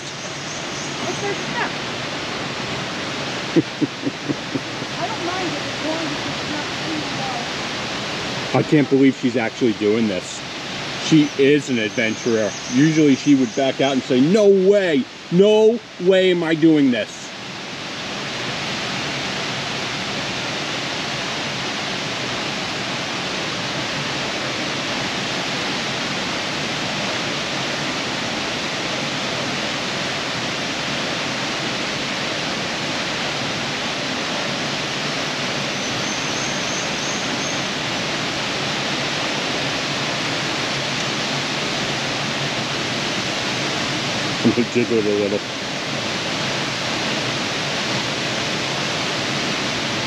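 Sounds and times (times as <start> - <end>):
waterfall and river rushing: 0.0 - 50.0.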